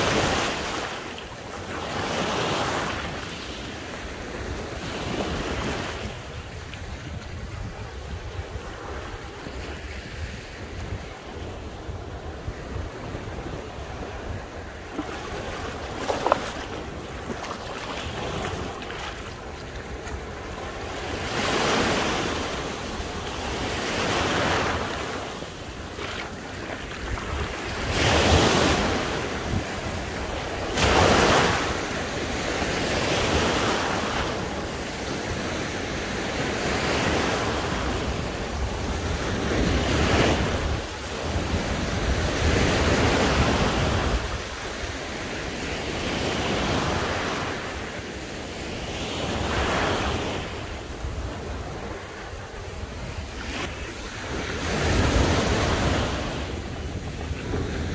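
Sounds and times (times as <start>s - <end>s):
wind rumbling on microphone: 0.0s - 47.8s
sea waves washing onto beach: 0.0s - 57.9s.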